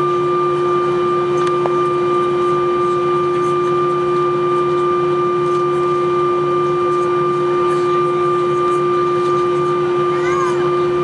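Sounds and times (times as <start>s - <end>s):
jet engine whine: 0.0s - 11.0s
low engine rumble: 0.0s - 11.0s.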